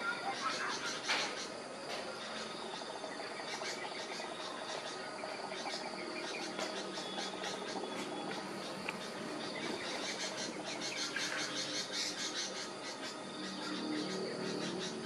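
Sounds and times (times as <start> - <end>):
birds chirping: 0.0 - 15.0
insects trilling: 0.0 - 15.0.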